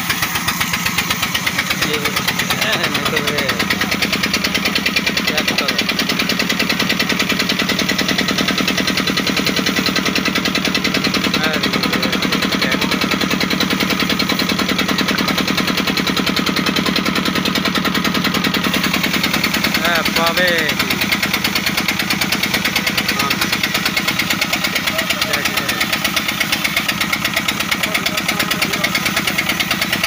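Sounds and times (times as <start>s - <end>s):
wood-cutting machine engine knocking: 0.0s - 30.0s.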